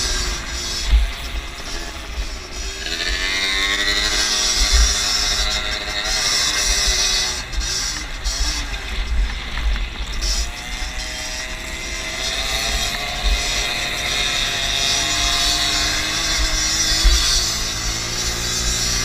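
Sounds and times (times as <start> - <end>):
moped engine racing: 0.0 - 19.0
other moped engines: 0.0 - 19.0.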